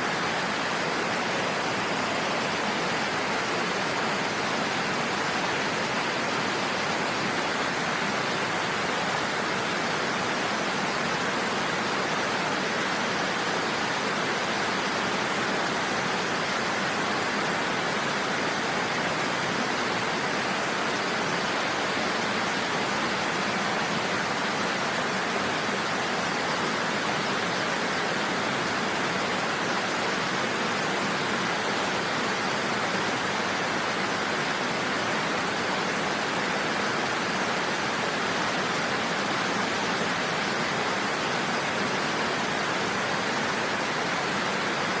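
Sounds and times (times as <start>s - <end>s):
waterfall hissing: 0.0s - 45.0s.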